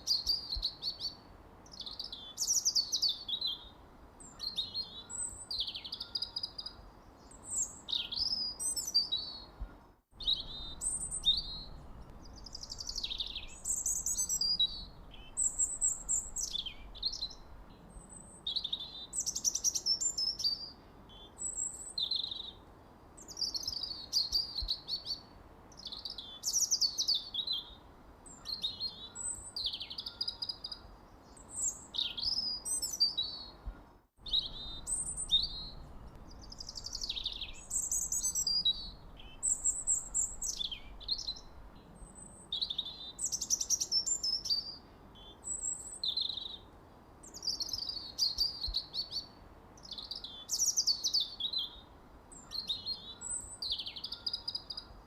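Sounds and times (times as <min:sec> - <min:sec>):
birds chirping and twittering: 0:00.0 - 0:22.6, 0:23.2 - 0:55.0.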